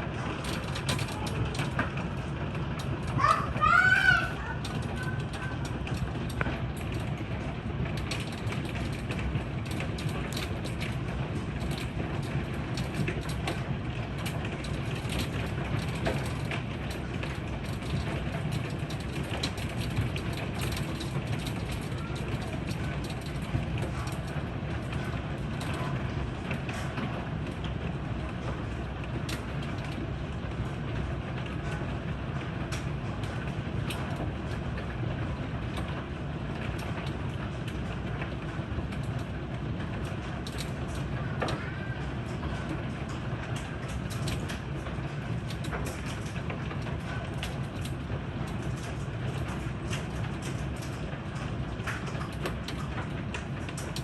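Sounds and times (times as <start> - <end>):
hailstones striking: 0.0 - 54.0
heavy rain: 0.0 - 54.0.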